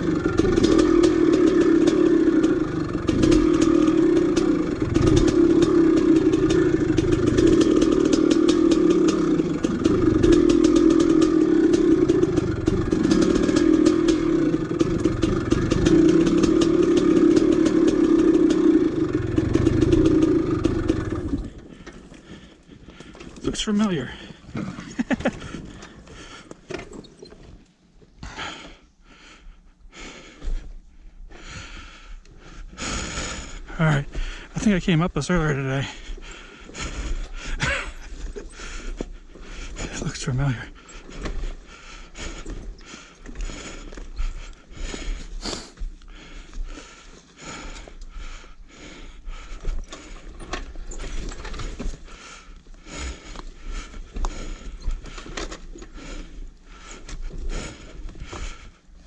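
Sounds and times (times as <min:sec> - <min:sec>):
two-stroke motorcycle engine running: 0:00.0 - 0:27.2, 0:32.7 - 0:59.0
motorcycle knocks and rattles: 0:00.0 - 0:27.6, 0:34.1 - 0:46.0, 0:49.5 - 0:58.7
heavy breathing: 0:00.0 - 0:59.0.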